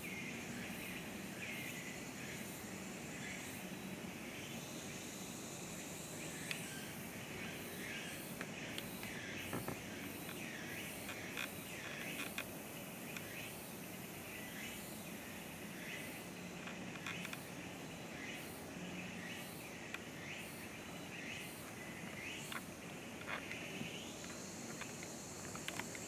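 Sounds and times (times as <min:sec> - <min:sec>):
insects hissing: 0:00.0 - 0:26.0.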